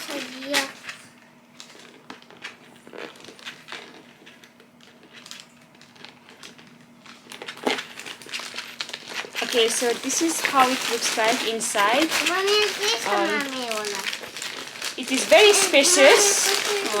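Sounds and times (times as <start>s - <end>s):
handbag clicks and rustles: 1.6s - 17.0s.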